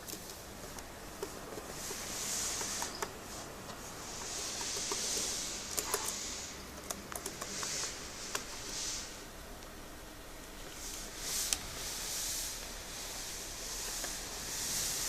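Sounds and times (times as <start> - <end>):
scratchy hissing rustle: 0.7 - 9.3, 10.6 - 15.0.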